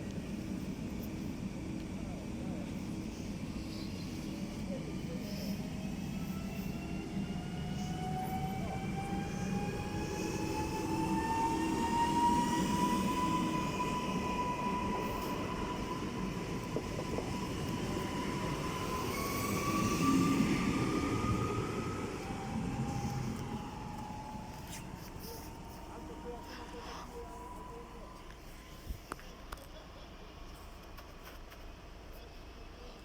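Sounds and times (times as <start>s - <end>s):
train passing at speed: 0.0s - 28.8s
train whine rising in pitch: 1.4s - 28.8s.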